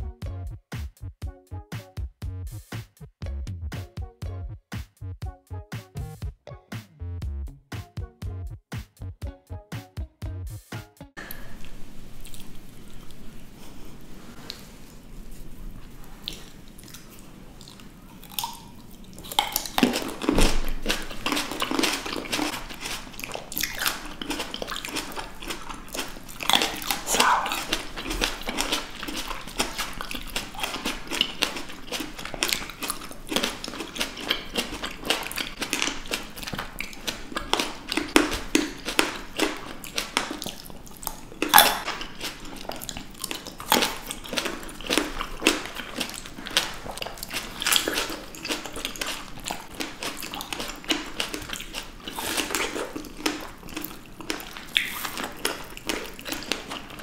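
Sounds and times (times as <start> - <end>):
biting and chewing grapes: 11.2 - 57.0.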